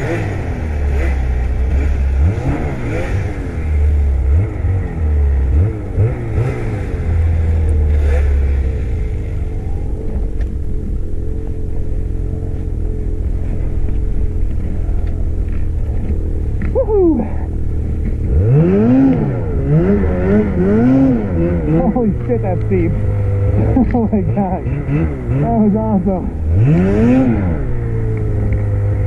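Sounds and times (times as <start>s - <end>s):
snowmobile engine revving: 0.0s - 29.0s.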